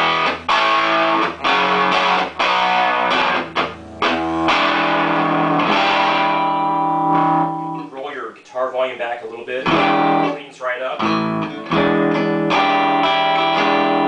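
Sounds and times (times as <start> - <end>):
electric guitar chords: 0.0 - 7.9, 9.6 - 14.0.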